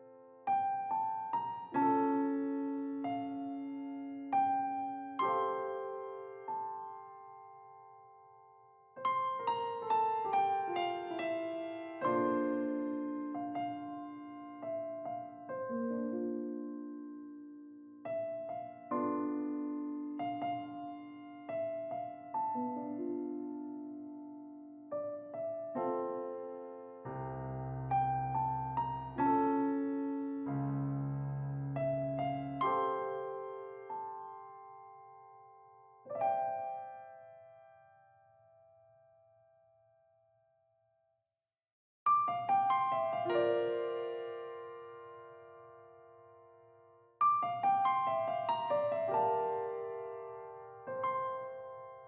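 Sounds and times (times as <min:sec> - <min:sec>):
piano music: 0:00.0 - 0:40.0, 0:42.1 - 0:52.0.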